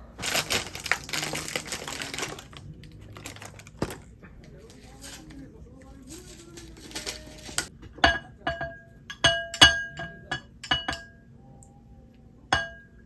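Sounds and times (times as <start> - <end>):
utensil clinking against dish: 0.1 - 11.3, 12.5 - 13.0.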